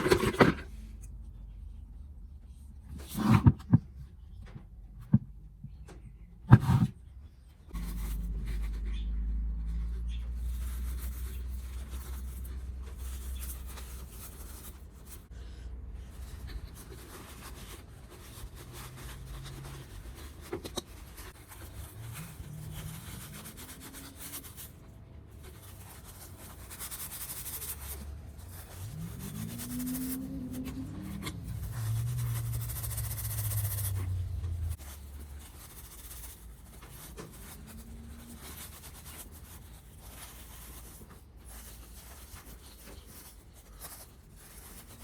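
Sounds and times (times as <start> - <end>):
low steady hum: 0.0 - 44.7.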